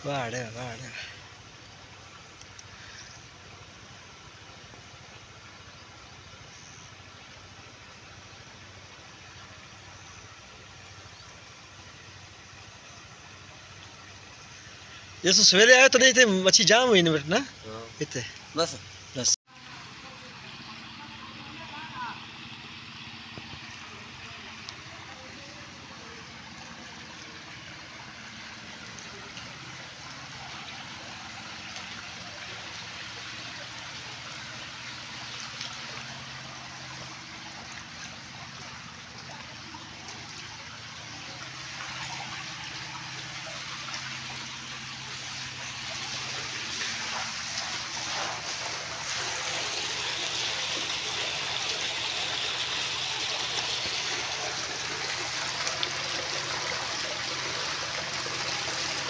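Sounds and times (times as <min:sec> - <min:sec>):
water trickling over concrete: 0:00.0 - 0:18.9, 0:19.6 - 0:59.0.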